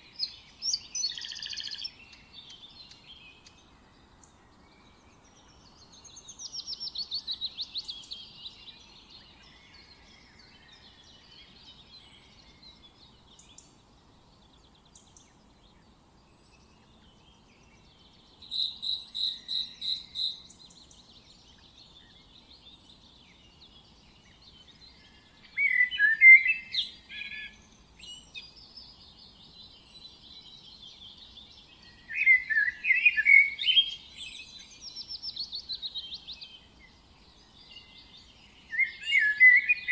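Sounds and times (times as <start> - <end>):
faint background noise: 0.0 - 39.9
small birds singing and chirping: 0.0 - 39.9.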